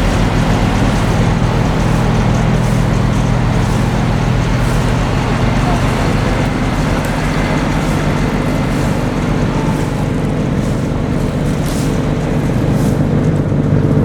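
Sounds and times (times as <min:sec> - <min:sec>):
engine droning steadily: 0:00.0 - 0:14.0.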